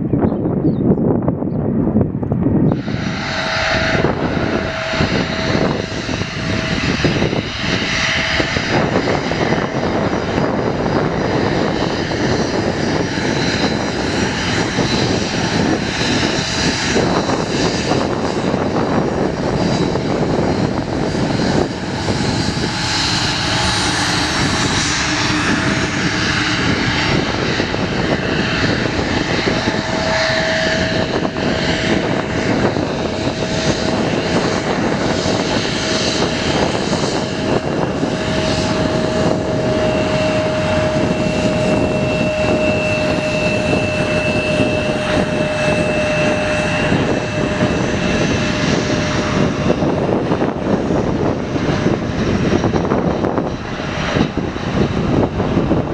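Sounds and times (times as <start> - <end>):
jet engines rushing: 0.0 - 55.9
thin whining tone: 2.7 - 51.6.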